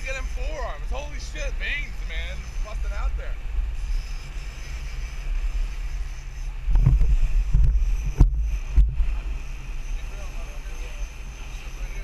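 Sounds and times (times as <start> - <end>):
boat engine low rumble: 0.0 - 12.0
wind buffeting microphone: 0.0 - 12.0.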